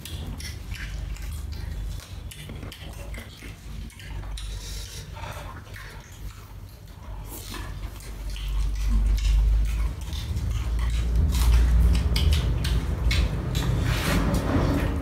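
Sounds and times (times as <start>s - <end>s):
person chewing food: 0.0s - 15.0s
steady low rumble: 0.0s - 15.0s.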